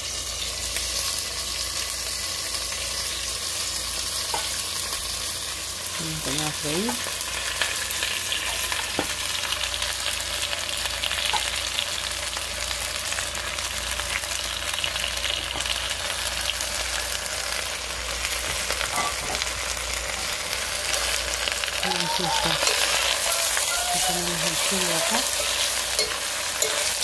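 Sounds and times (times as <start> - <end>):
chiles frying in a pot: 0.0 - 27.0.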